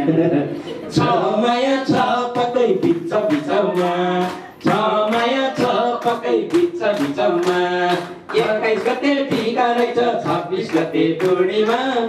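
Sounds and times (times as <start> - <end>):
man singing into a microphone: 0.8 - 12.0.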